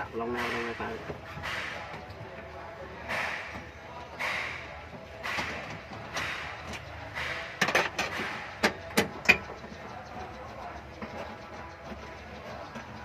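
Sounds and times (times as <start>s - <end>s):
sharp clicks and knocks: 0.0s - 13.0s.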